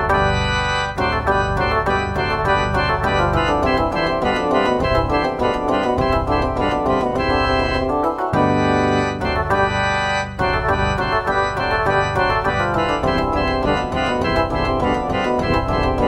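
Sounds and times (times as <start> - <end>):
organ-toned keyboard chords: 0.0 - 16.0.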